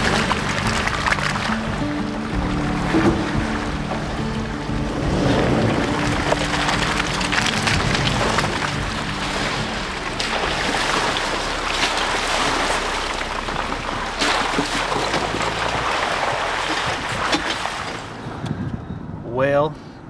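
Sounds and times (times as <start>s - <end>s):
tyres splashing through muddy water: 0.0s - 18.4s
low engine running: 0.0s - 18.8s.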